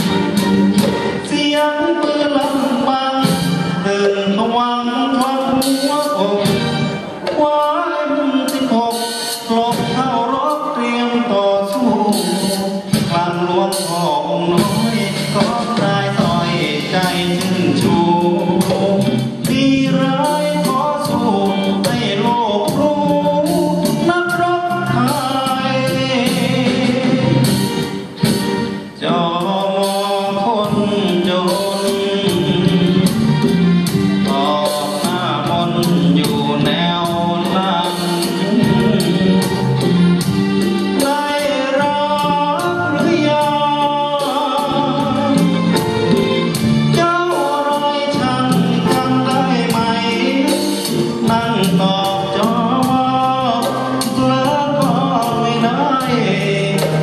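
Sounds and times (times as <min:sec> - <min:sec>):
band accompaniment with beat: 0:00.0 - 0:57.0
man singing into microphone: 0:01.1 - 0:27.6, 0:28.9 - 0:57.0.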